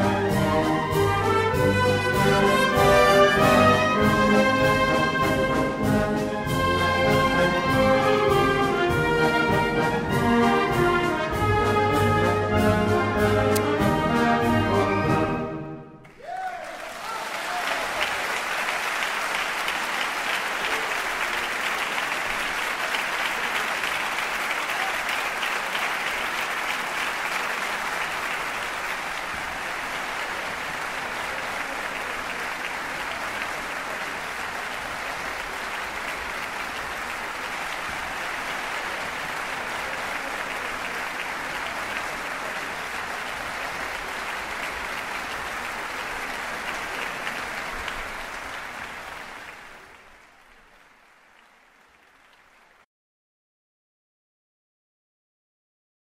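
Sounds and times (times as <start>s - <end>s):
audience applause: 0.0s - 15.4s, 16.0s - 52.9s.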